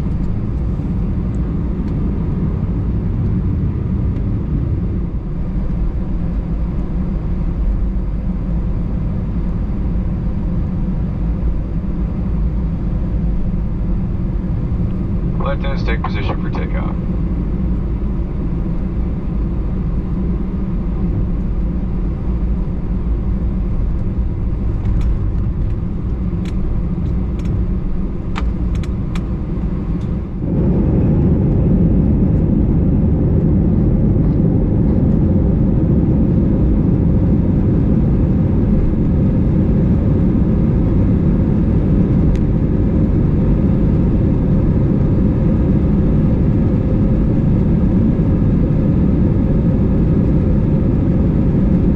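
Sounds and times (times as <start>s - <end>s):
airplane engine and cabin rumble: 0.0s - 51.9s.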